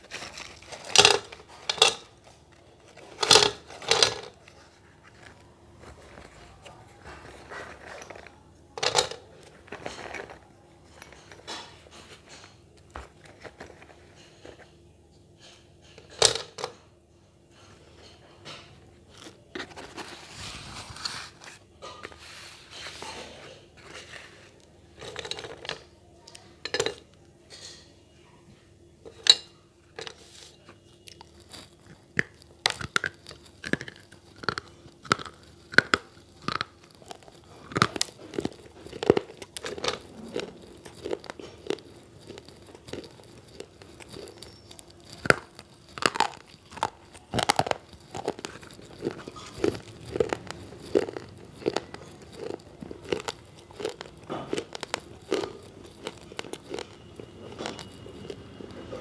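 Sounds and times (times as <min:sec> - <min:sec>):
person chewing crunchy pencils: 0:00.0 - 0:14.7, 0:19.1 - 0:27.1, 0:29.9 - 0:59.0.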